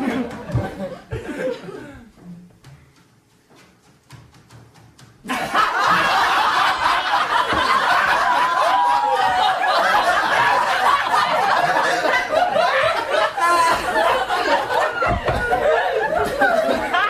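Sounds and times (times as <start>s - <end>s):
people laughing and giggling: 0.0s - 2.5s, 5.2s - 17.0s.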